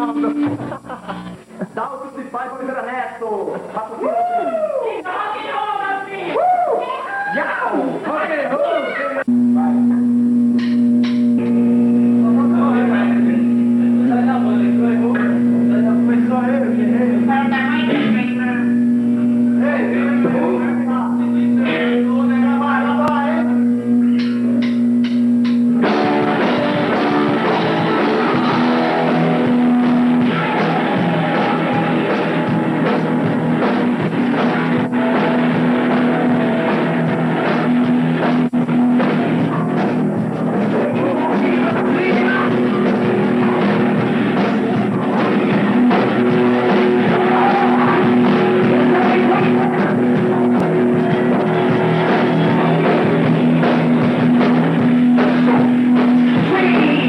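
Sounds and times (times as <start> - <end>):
heavy metal band playing: 0.0 - 1.9, 8.2 - 57.0.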